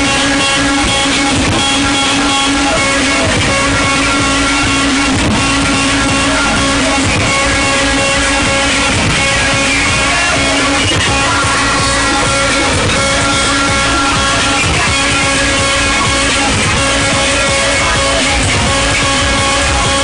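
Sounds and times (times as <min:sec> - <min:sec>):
loud guitar music from car speakers: 0:00.0 - 0:20.0.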